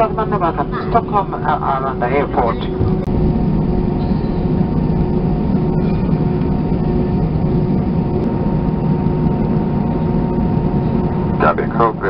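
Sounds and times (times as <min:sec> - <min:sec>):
cabin air system: 0:00.0 - 0:12.0
jet engines idling: 0:00.0 - 0:12.0
faint held tones: 0:02.2 - 0:12.0.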